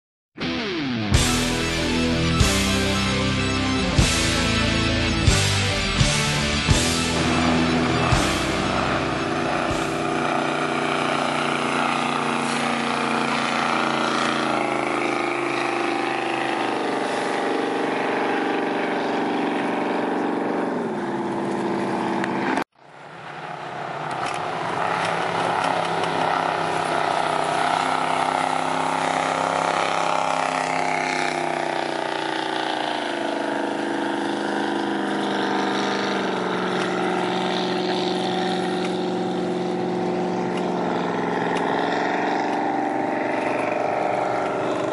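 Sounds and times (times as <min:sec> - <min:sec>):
engine running: 0:00.4 - 0:44.9.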